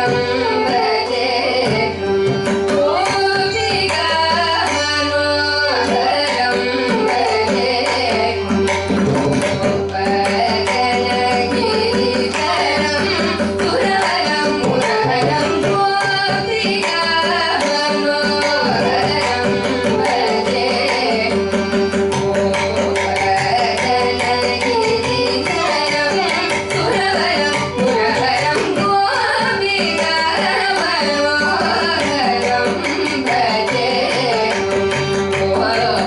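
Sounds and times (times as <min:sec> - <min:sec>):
two female voices singing: 0:00.0 - 0:02.1, 0:02.7 - 0:08.6, 0:09.9 - 0:21.8, 0:22.4 - 0:36.0
hand drum playing: 0:00.0 - 0:36.0
violin: 0:00.0 - 0:36.0.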